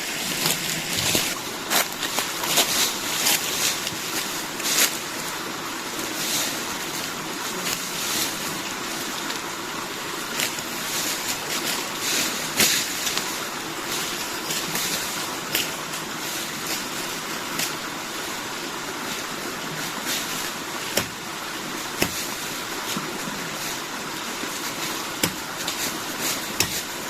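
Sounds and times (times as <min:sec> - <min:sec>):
flowing stream water: 0:00.0 - 0:27.0.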